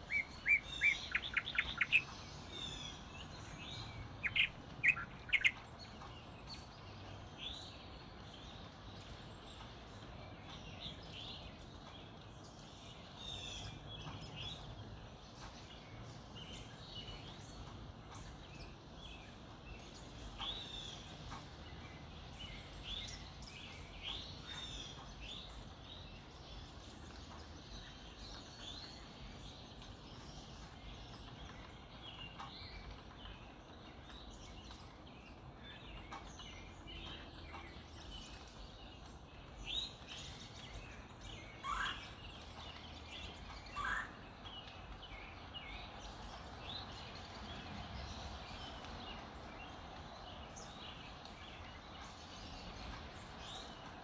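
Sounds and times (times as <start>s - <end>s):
background hiss: 0.0s - 54.0s
songbirds chirping and trilling: 0.0s - 54.0s.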